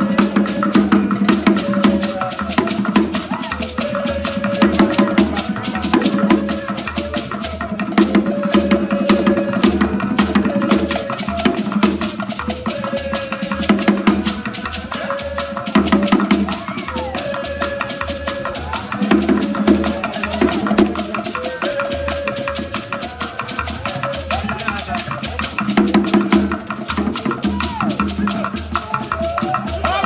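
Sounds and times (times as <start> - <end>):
drum music: 0.0 - 30.0.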